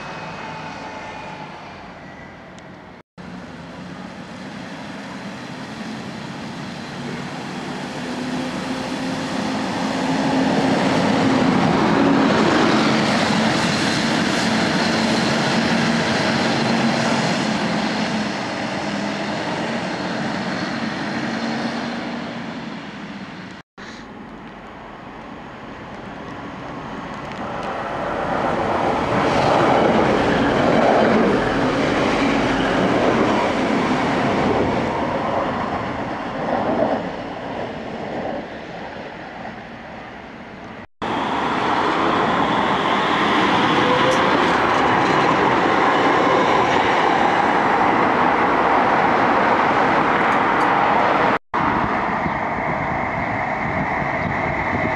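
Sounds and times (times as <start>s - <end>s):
passenger train rumbling: 0.0s - 54.9s
tram running noise: 0.0s - 54.9s.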